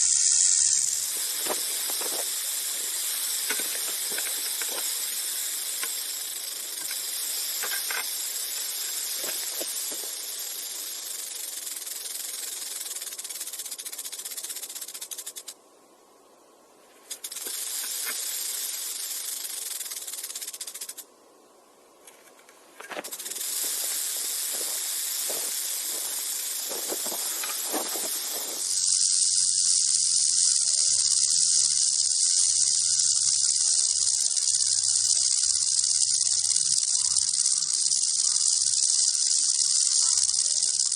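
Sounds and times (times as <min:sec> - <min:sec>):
rattlesnake rattling: 0:00.0 - 0:15.6, 0:17.0 - 0:21.1, 0:22.1 - 0:40.9.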